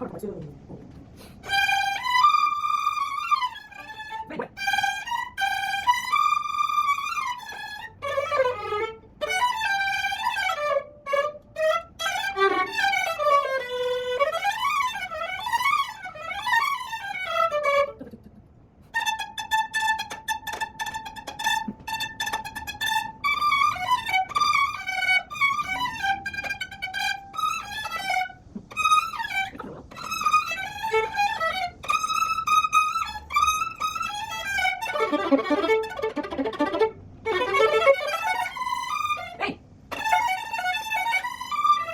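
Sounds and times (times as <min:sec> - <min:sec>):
solo violin playing: 0:01.2 - 0:18.1, 0:18.8 - 0:41.9.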